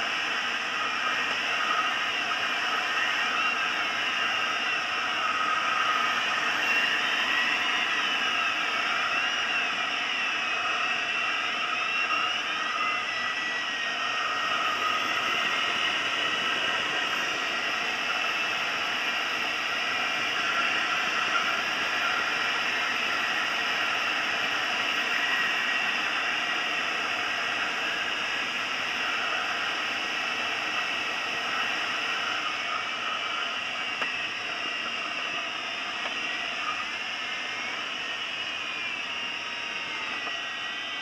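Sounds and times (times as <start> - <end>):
thin whistling tones: 0.2 - 41.0.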